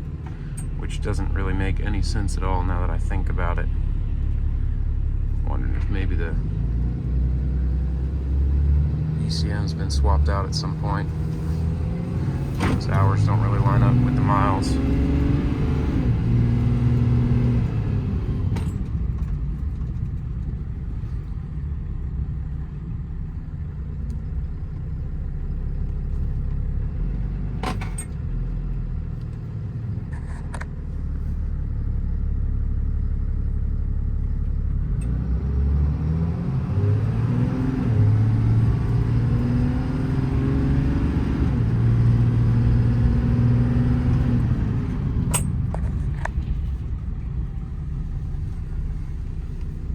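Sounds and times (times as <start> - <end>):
diesel truck engine: 0.0 - 49.9.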